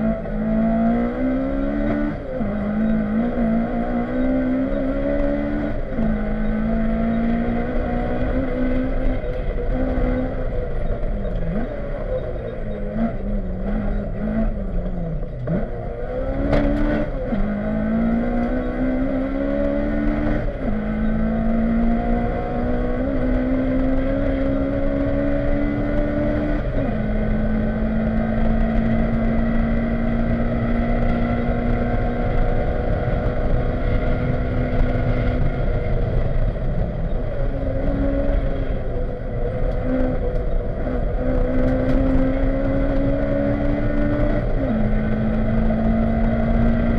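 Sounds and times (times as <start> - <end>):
car engine revving: 0.0 - 46.9
road noise: 0.0 - 46.9.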